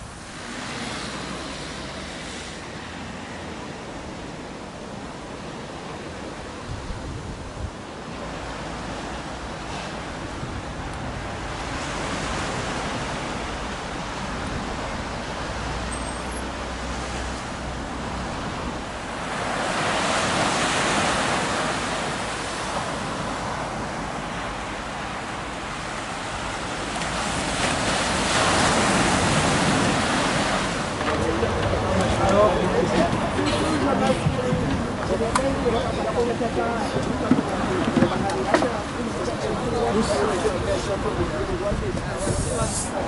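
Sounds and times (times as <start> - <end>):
waves breaking on a beach: 0.0 - 43.0.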